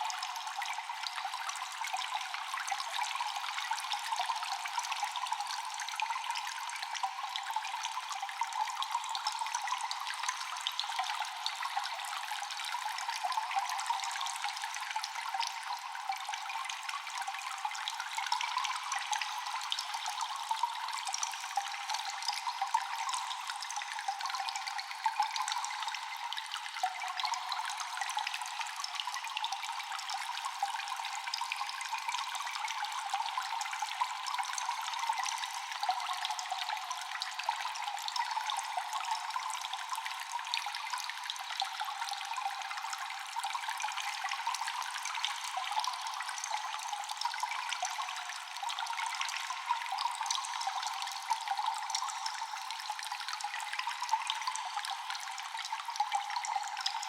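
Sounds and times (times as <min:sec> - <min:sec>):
water dripping in cave: 0:00.0 - 0:57.0
water trickling: 0:00.0 - 0:57.0.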